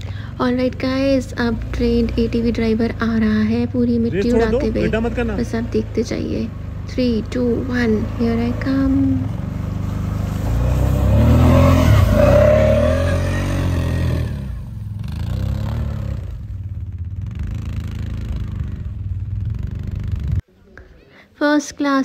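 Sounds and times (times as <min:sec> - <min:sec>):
quad bike engine revving: 0:00.0 - 0:20.4.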